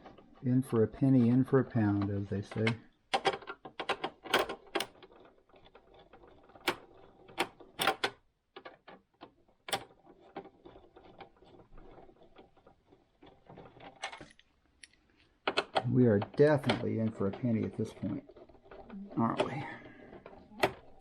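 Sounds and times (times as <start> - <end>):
tools clicking on machine casing: 1.0 - 21.0.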